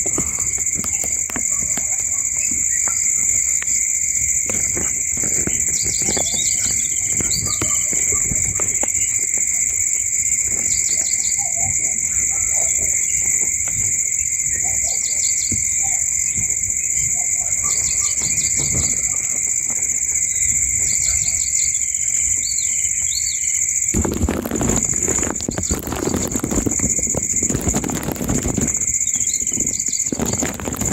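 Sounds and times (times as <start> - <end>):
high-pitched insect drone: 0.0 - 30.9
rapid bird chirps: 0.0 - 30.9.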